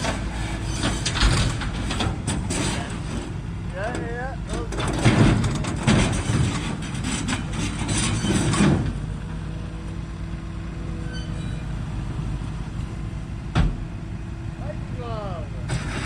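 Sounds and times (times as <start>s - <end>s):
heavy vehicle engine idling: 0.0s - 16.0s.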